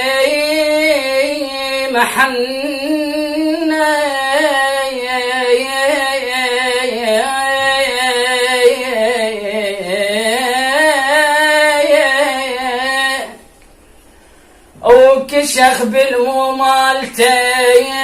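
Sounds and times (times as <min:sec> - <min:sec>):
man singing melisma: 0:00.0 - 0:13.4, 0:14.8 - 0:18.0.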